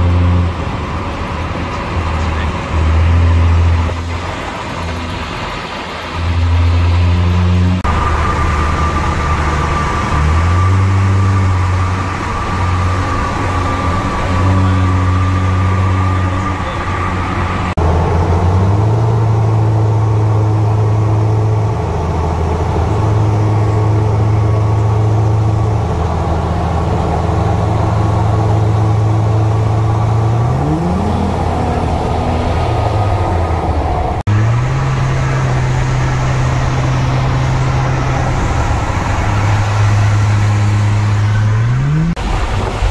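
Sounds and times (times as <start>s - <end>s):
vehicle deep bass hum: 0.0s - 42.9s.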